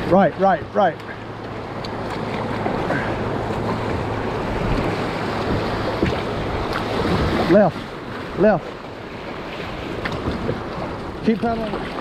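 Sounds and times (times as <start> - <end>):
river water rushing and splashing: 0.0 - 12.0.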